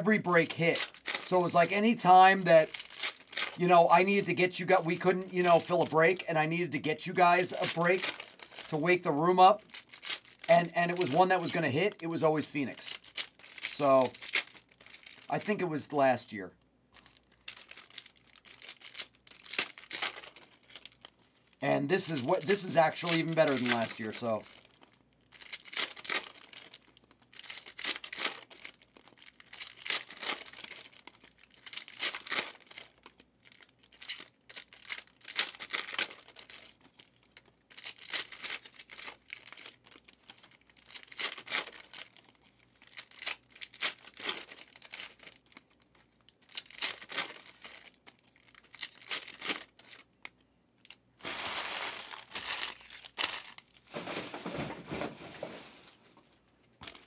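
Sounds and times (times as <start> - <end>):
plastic wrappers tearing and crinkling: 0.0 - 16.0, 17.0 - 55.7, 56.8 - 57.0.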